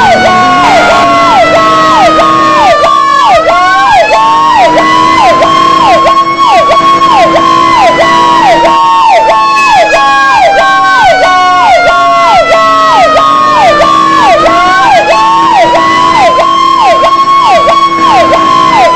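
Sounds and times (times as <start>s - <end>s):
electronic siren repeating note: 0.0s - 18.9s
wailing siren: 0.0s - 18.9s.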